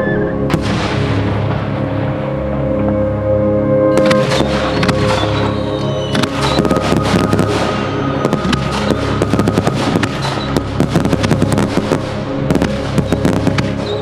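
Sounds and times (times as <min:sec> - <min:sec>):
background music with held notes: 0:00.0 - 0:14.0
fireworks bursting and crackling: 0:00.5 - 0:03.0, 0:03.9 - 0:14.0.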